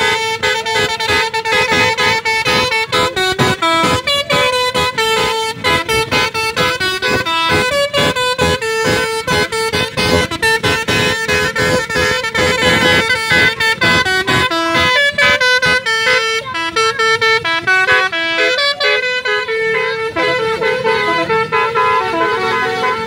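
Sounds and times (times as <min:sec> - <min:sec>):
multi-tone bus horn melody: 0:00.0 - 0:23.0.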